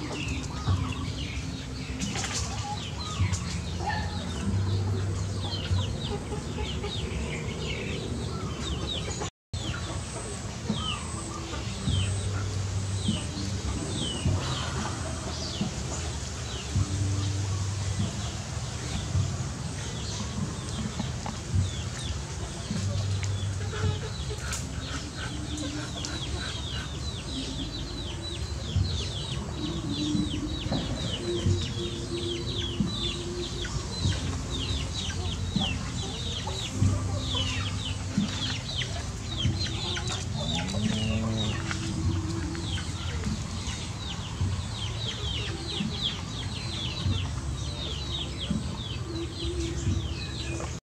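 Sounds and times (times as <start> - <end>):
bird clucking calls: 0.0 - 50.8.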